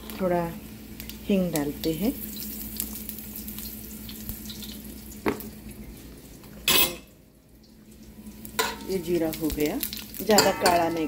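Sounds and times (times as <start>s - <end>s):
seeds sizzling in hot oil: 0.0s - 6.5s, 7.4s - 11.0s.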